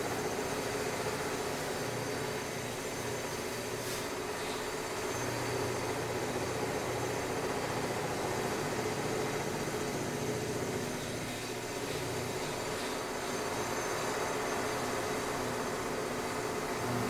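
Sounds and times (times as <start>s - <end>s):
construction machinery engine drone: 0.0s - 17.0s.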